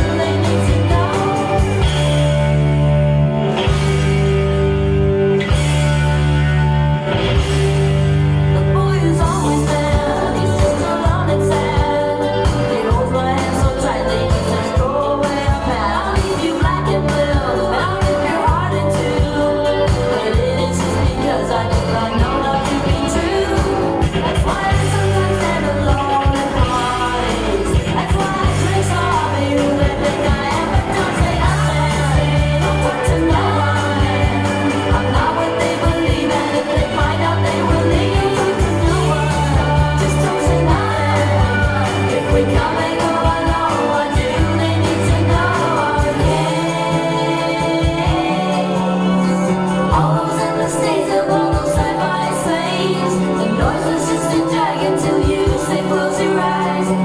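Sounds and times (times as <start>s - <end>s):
woman singing: 0.0s - 2.7s, 8.5s - 57.0s
pop-rock band playing: 0.0s - 57.0s.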